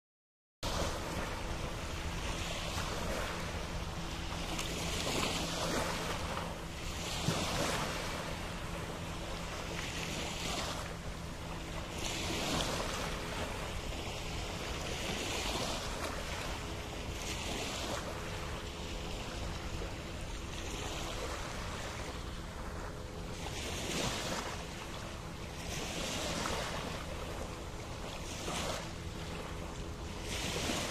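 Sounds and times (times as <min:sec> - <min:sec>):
small waves lapping on shore: 0:00.6 - 0:30.9.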